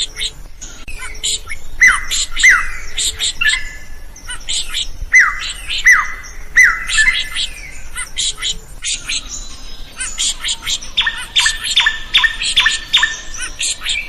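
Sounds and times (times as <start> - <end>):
bird singing chirps and whistles: 0.0 - 14.0.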